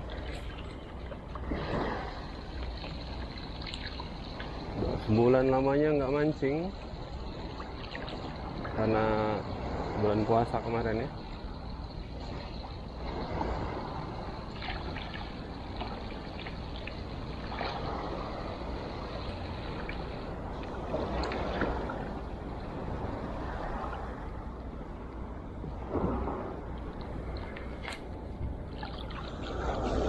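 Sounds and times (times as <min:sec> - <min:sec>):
small waves lapping: 0:00.0 - 0:30.0.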